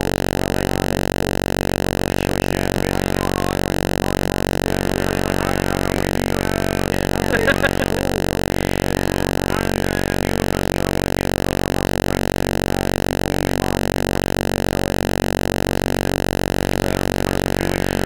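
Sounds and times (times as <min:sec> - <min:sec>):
low buzzing drone: 0:00.0 - 0:18.0.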